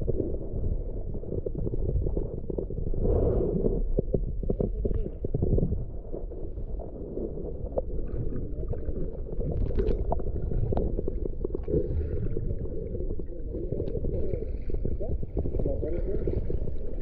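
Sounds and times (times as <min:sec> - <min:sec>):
muffled underwater water rumble: 0:00.0 - 0:17.0
underwater clicks and crackles: 0:00.0 - 0:17.0.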